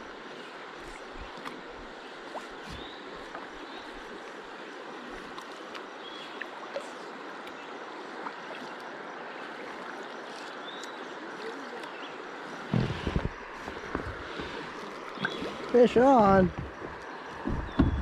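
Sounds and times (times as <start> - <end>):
river water rushing: 0.0 - 17.7.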